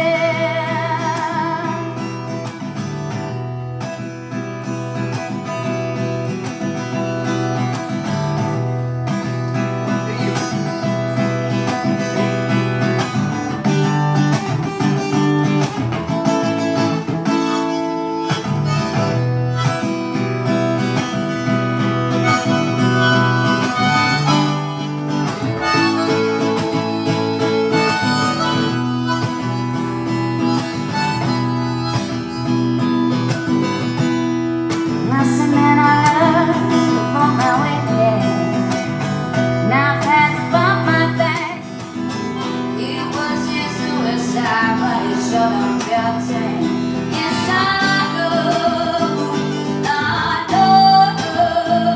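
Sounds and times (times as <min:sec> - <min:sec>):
acoustic guitar strumming: 0:00.0 - 0:51.9
harmonica melody: 0:08.5 - 0:51.9.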